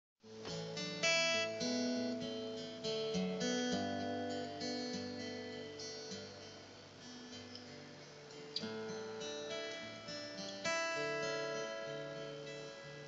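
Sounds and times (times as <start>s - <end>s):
acoustic guitar picked notes: 0.2s - 13.0s.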